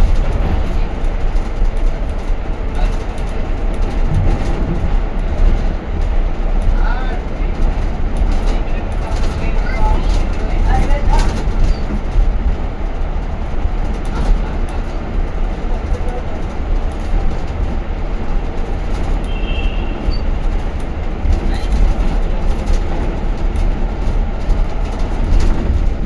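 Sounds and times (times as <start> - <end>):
vehicle rumble and road noise: 0.0 - 26.0.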